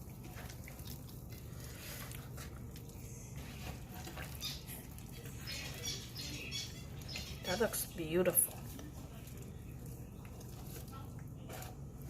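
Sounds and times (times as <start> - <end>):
hands squishing butter on chicken: 0.0 - 7.5, 8.4 - 12.0.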